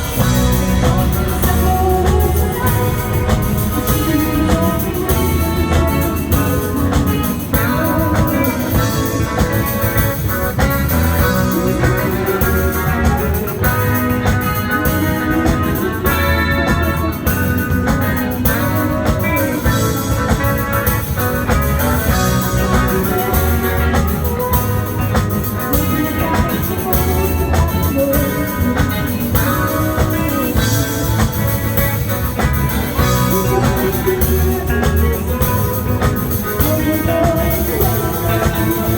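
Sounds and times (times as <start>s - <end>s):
guitar: 0.0s - 38.9s
live band playing: 0.0s - 38.9s.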